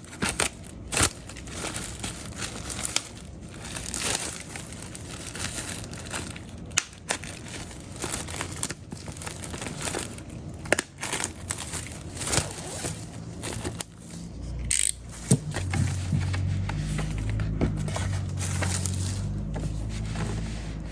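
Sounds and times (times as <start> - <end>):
plastic and paper crinkling: 0.0 - 20.9.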